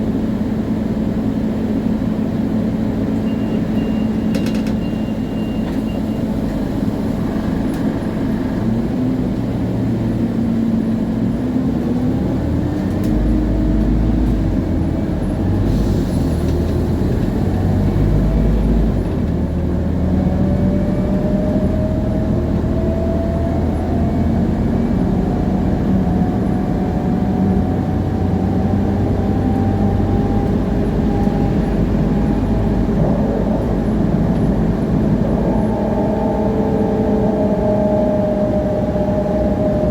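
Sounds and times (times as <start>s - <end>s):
bus diesel engine running: 0.0s - 39.9s
rising gear whine: 5.2s - 39.9s.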